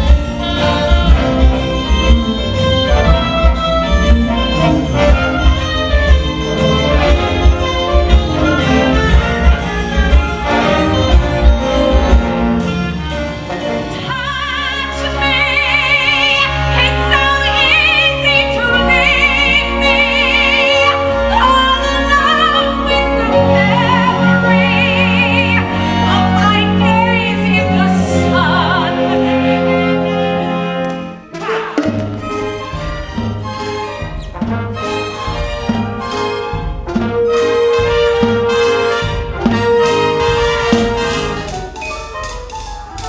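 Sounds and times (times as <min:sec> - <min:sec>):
orchestra playing: 0:00.0 - 0:43.0.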